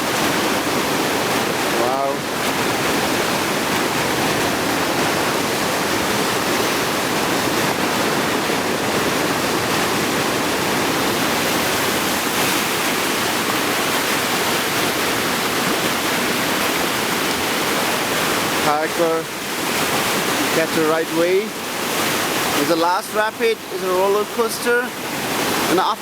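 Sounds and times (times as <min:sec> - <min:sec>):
river rapids rushing: 0:00.0 - 0:26.0.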